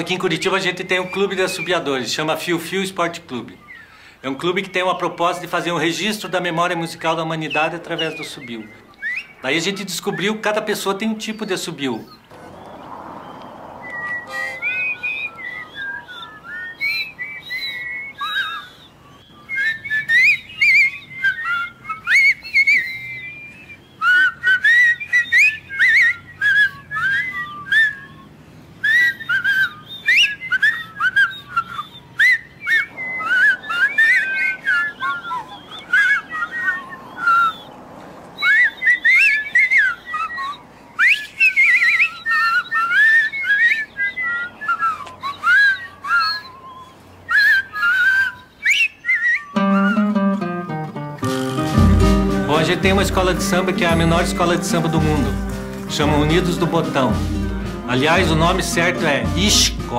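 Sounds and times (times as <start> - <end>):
people whistling: 0.0 - 1.9, 6.2 - 10.4, 11.3 - 59.9.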